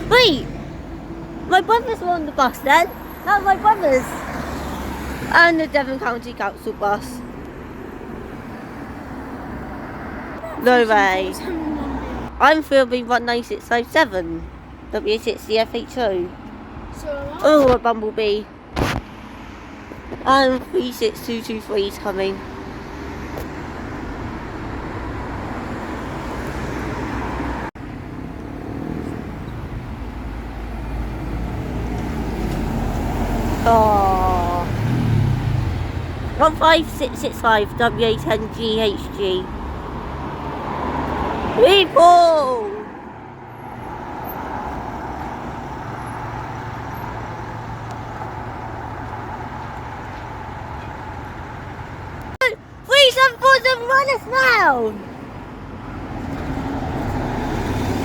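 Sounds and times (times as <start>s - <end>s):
bus engine running: 0.0s - 18.4s, 27.4s - 58.0s
traffic rumble: 0.0s - 58.0s.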